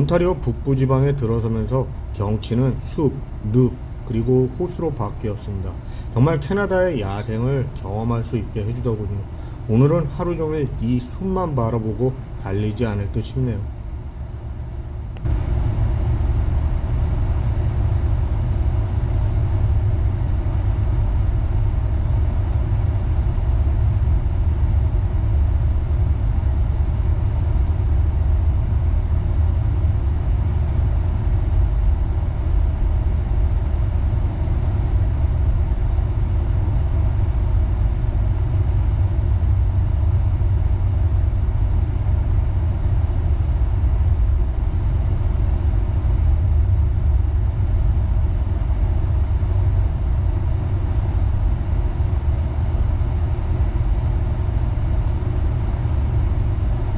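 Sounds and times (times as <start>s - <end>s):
train rumbling along track: 0.0s - 56.9s.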